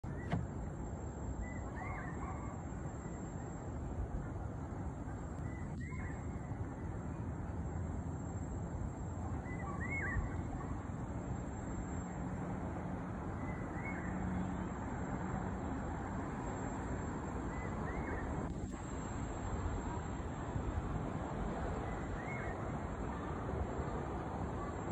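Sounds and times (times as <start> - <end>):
distant city traffic hum: 0.0 - 24.9.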